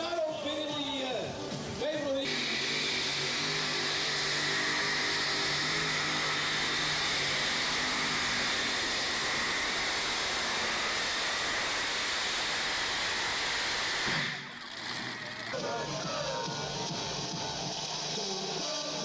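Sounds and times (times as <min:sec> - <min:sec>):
pulling tractor engine at full power: 0:02.3 - 0:19.0.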